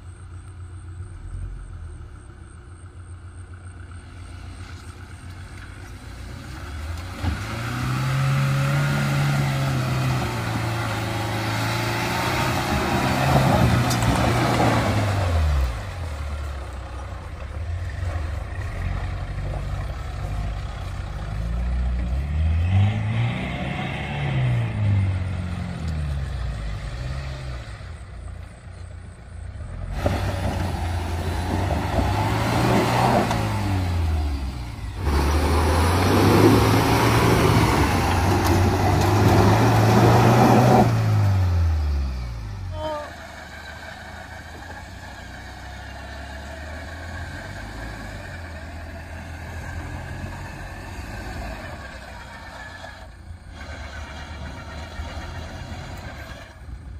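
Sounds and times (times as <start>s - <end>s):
jeep engine revving: 3.7s - 56.9s.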